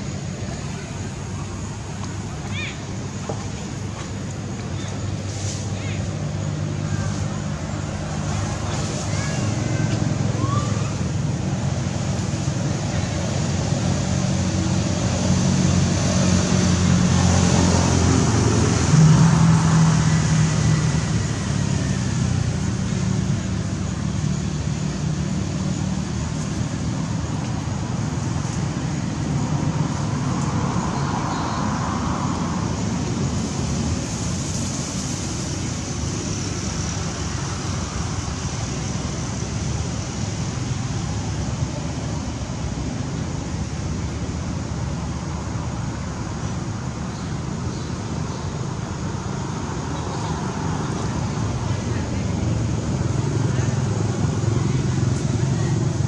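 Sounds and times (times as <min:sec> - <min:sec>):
road traffic noise: 0:00.0 - 0:56.0
steady outdoor hiss: 0:00.0 - 0:56.0
vehicle engine running: 0:00.0 - 0:56.0.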